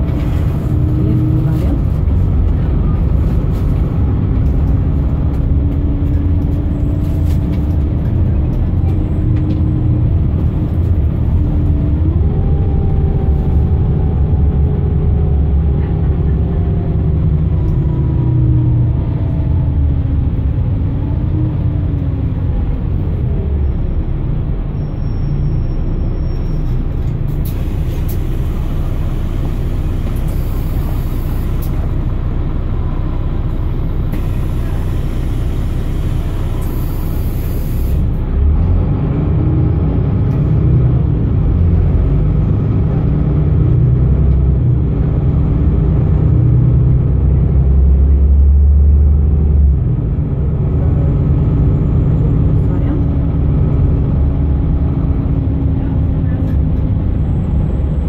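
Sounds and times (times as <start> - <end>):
bus engine low rumble: 0.0 - 58.0.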